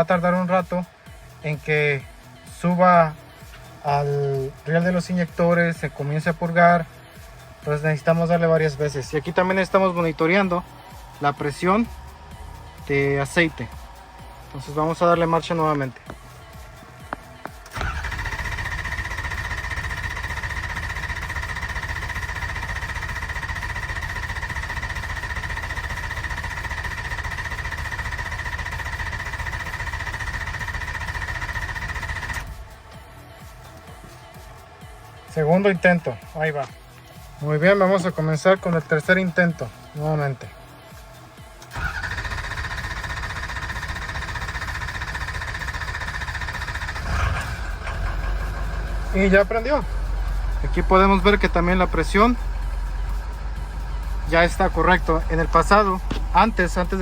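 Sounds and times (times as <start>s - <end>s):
starter motor cranking engine: 2.6s - 33.8s, 41.6s - 57.0s.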